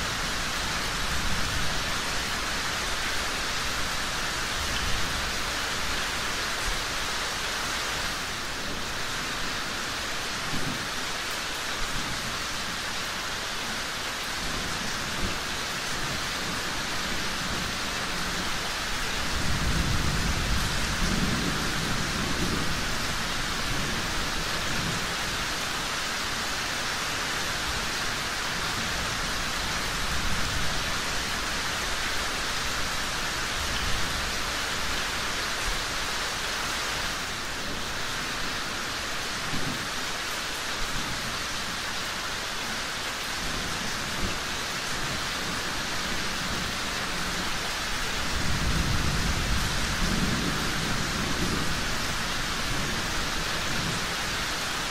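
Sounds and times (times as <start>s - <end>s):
heavy rain hissing: 0.0s - 54.9s.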